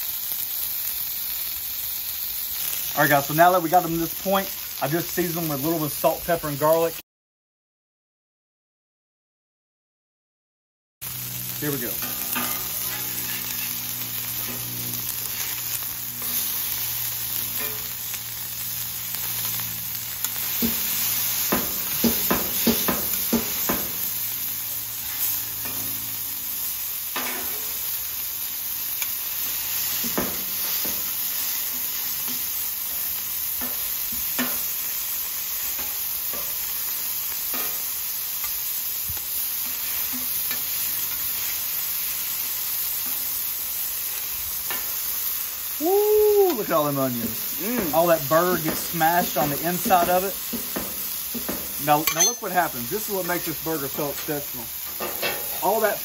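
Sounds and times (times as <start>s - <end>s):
meat sizzling on a griddle: 0.0s - 7.0s, 11.0s - 56.0s.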